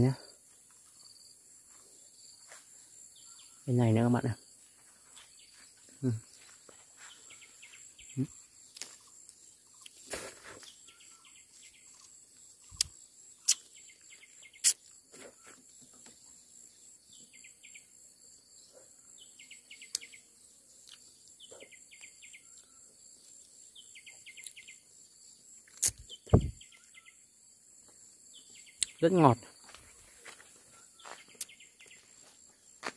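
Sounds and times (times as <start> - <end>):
insect chirping trills: 0.0 - 32.9
insects droning: 0.0 - 32.9.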